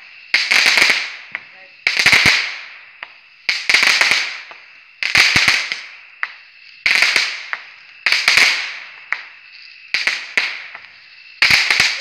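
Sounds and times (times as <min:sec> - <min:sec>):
crackling pops: 0:00.0 - 0:12.0
fireworks bangs: 0:00.0 - 0:12.0
fireworks hiss: 0:00.0 - 0:12.0.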